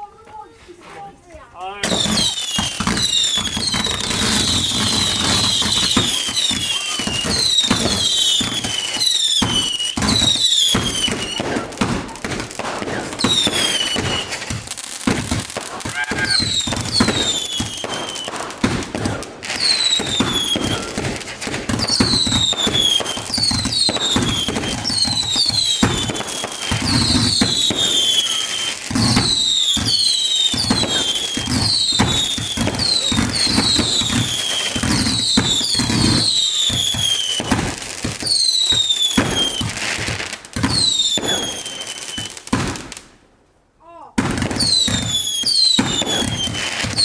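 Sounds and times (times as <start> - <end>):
firework whistles falling in pitch: 1.8 - 11.7, 12.8 - 14.4, 15.8 - 18.4, 19.6 - 21.1, 21.7 - 39.8, 40.6 - 42.4, 44.6 - 47.0
firework bangs and crackle: 1.8 - 43.3, 44.2 - 47.0.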